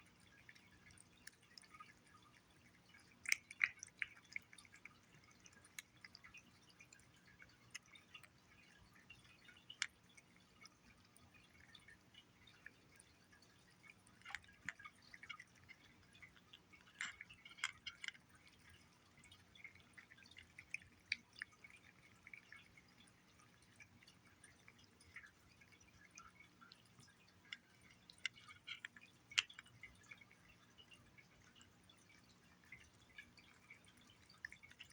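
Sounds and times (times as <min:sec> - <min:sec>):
cat eating wet food: 0:00.0 - 0:34.9.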